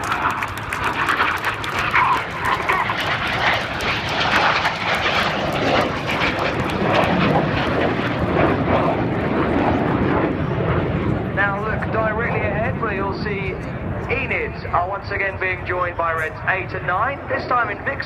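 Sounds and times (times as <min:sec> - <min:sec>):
jet roar: 0:00.0 - 0:18.0.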